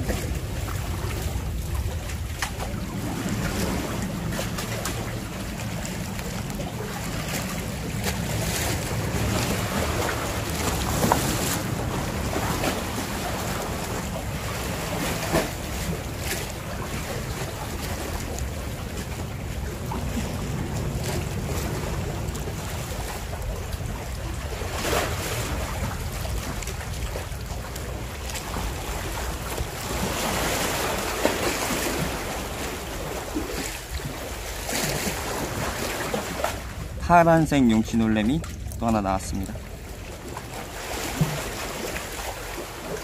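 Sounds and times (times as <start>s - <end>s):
wind buffeting microphone: 0.0s - 42.6s
sea waves against concrete: 0.0s - 43.0s.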